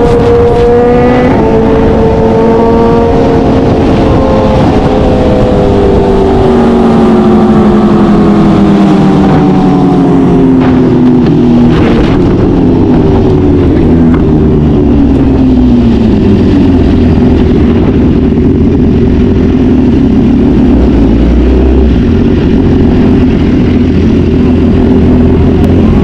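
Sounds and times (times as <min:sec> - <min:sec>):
car engine running hard: 0:00.0 - 0:26.0.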